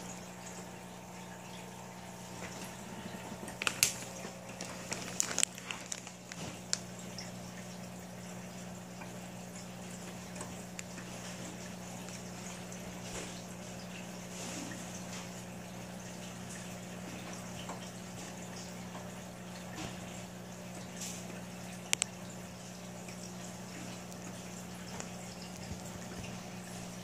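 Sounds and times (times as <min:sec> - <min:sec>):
sharp clicks and drips: 0:00.0 - 0:14.1, 0:15.0 - 0:27.0
aquarium filter humming: 0:00.0 - 0:27.0
water bubbling and trickling: 0:00.0 - 0:27.0.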